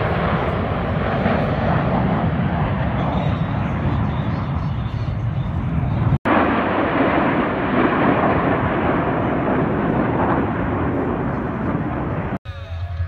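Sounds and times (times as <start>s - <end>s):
jet engines roaring past: 0.0s - 13.0s.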